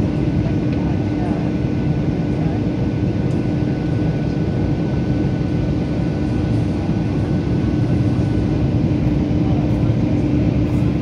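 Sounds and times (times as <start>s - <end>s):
jet engine drone in cabin: 0.0s - 11.0s
steady hum: 0.0s - 11.0s.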